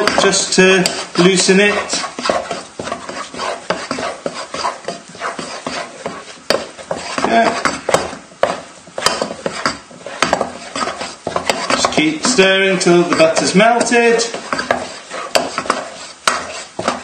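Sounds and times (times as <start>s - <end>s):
spatula knocking against pan: 0.0s - 1.0s, 1.9s - 17.0s
spatula stirring mashed potato: 0.0s - 17.0s.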